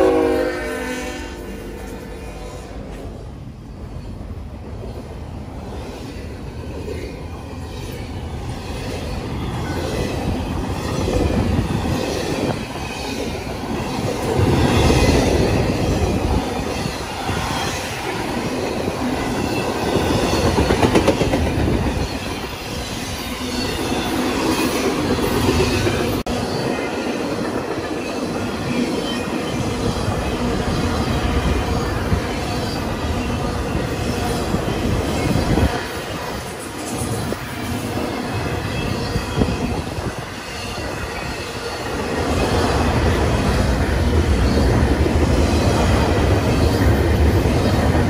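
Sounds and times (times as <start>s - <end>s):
train wheels clacking over rails: 6.4s - 48.0s.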